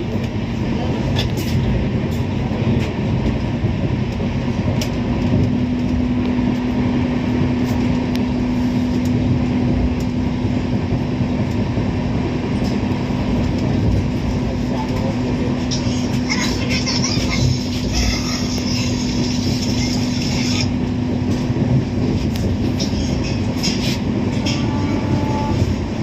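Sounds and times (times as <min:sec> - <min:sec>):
constant hum: 0:00.0 - 0:26.0
train wheels rumbling on rails: 0:00.0 - 0:26.0.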